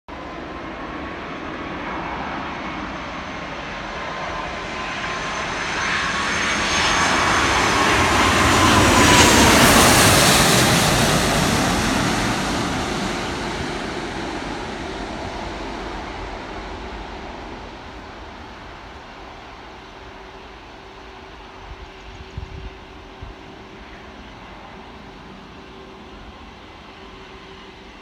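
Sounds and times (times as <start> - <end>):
jet airliner passing: 0.1 - 28.0.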